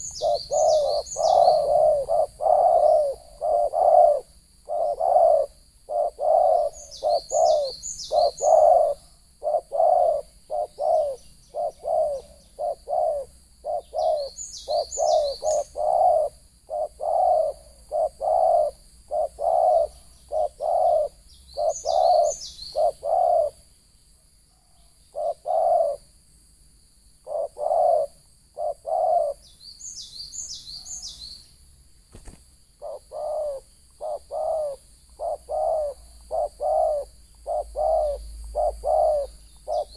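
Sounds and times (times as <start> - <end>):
doves cooing: 0.0 - 23.6, 25.1 - 26.1, 27.2 - 29.4, 32.2 - 39.9
small bird chirping: 0.0 - 26.1, 27.0 - 39.9.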